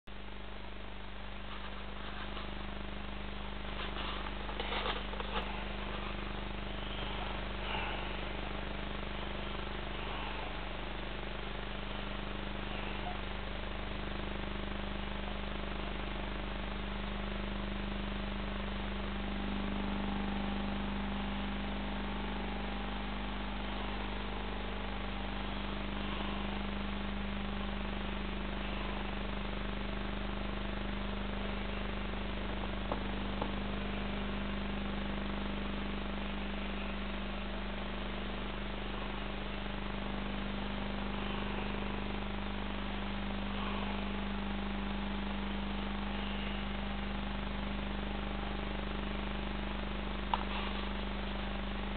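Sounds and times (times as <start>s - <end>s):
aquarium air pump humming: 0.1s - 51.9s.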